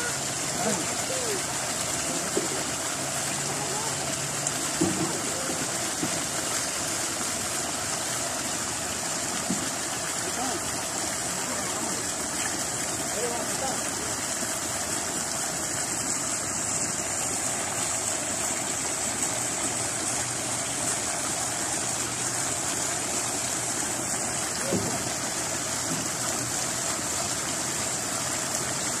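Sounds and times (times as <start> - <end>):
water spilling into pond: 0.0 - 29.0.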